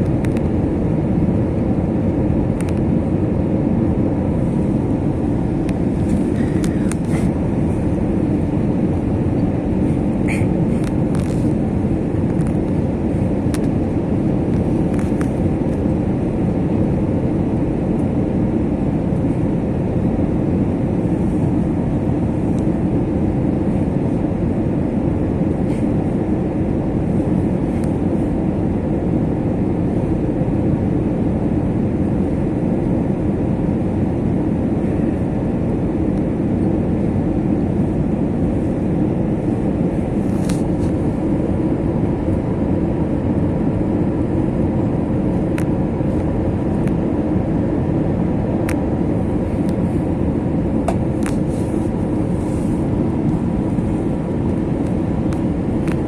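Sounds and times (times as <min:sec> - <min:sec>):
airliner cabin noise: 0:00.0 - 0:56.0.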